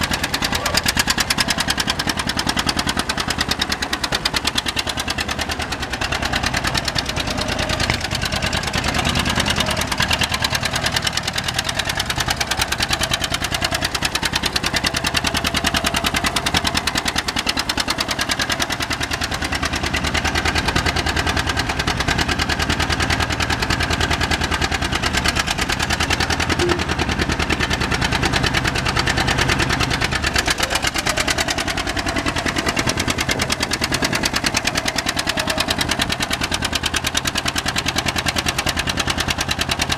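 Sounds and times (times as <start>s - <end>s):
tractor engine exhaust pulses: 0.0s - 39.9s.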